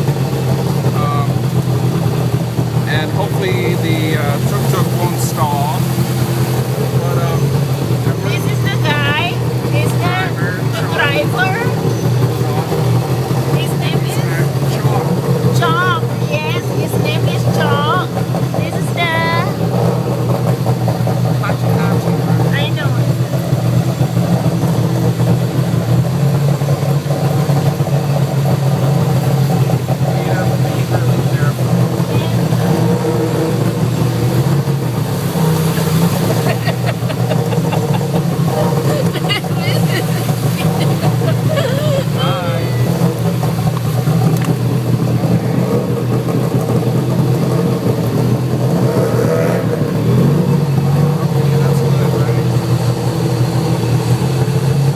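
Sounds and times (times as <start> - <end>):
engine running: 0.0 - 54.9.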